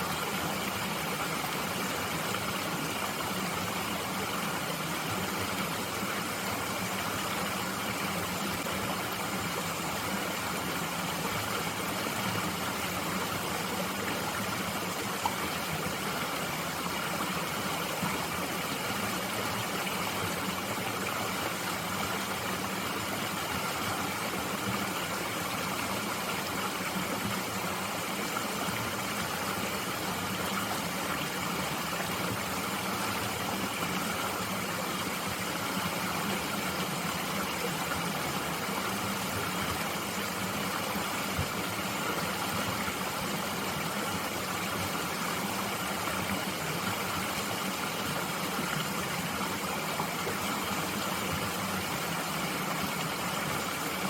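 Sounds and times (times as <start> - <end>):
mountain stream flowing: 0.0 - 54.0.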